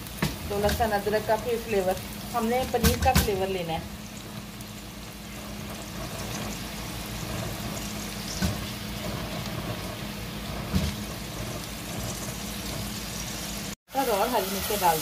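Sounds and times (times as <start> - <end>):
onions frying in bubbling oil: 0.0 - 15.0.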